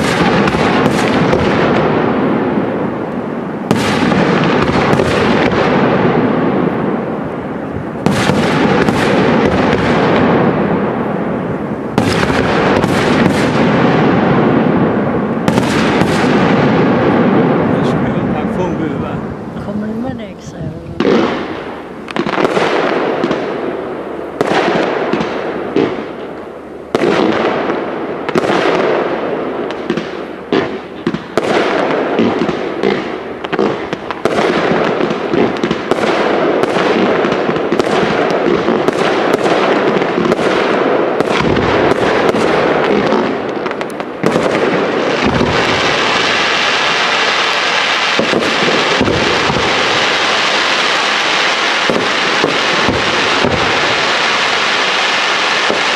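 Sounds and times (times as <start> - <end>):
crackling firework stars: 0.0 - 55.9.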